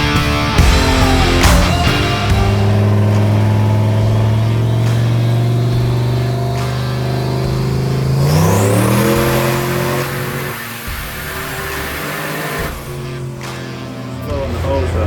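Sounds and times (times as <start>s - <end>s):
truck engine revving under load: 0.0s - 15.0s.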